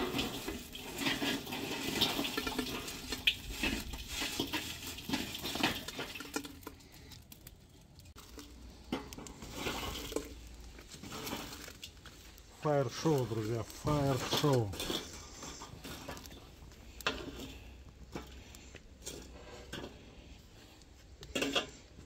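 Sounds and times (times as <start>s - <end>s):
charcoal clattering into grill: 0.0s - 7.2s, 8.0s - 20.1s, 21.2s - 21.8s.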